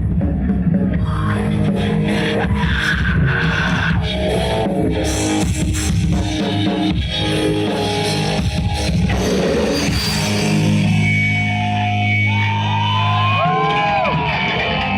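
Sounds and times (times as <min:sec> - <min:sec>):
bass guitar: 0:00.0 - 0:14.9
distorted electric guitars: 0:00.0 - 0:14.9
drum kit: 0:00.0 - 0:14.9.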